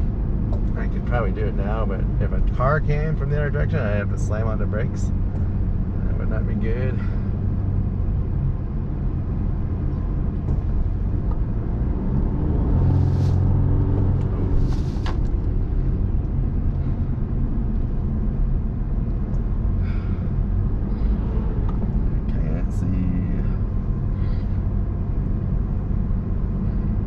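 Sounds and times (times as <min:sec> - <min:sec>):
road and engine rumble inside car: 0:00.0 - 0:27.0.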